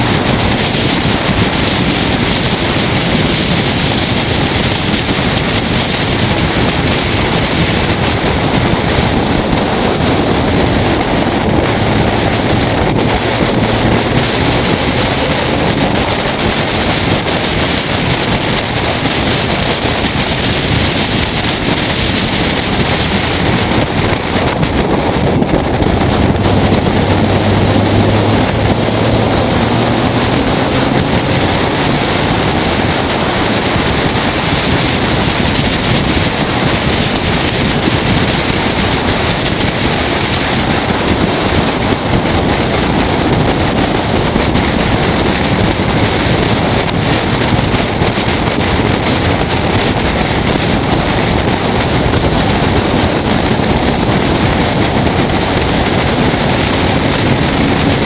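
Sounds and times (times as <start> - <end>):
race car engine running: 0.0 - 58.0
wind rushing over microphone: 0.0 - 58.0.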